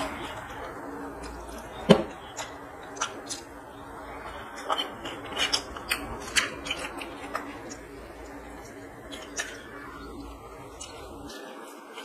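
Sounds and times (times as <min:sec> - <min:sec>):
chewing: 0:00.0 - 0:12.0
rice mixed by hand on steel plate: 0:00.0 - 0:12.0.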